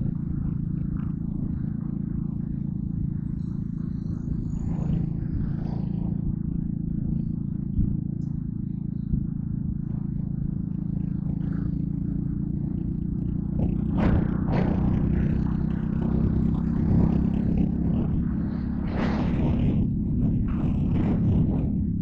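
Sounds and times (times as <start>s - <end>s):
small engine running at low revs: 0.0s - 22.0s.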